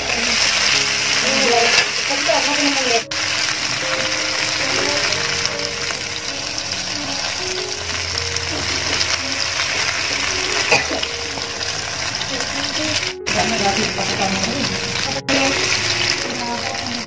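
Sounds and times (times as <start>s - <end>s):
fish sizzling in oil: 0.0s - 17.0s
slow background music: 0.0s - 17.0s.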